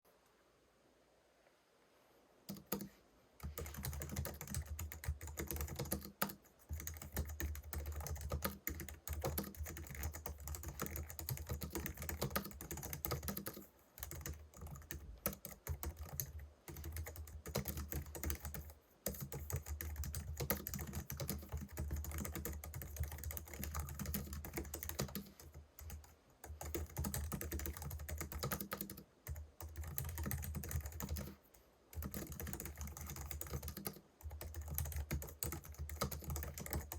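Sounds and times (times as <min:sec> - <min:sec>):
fast keyboard typing: 0:02.5 - 0:36.9.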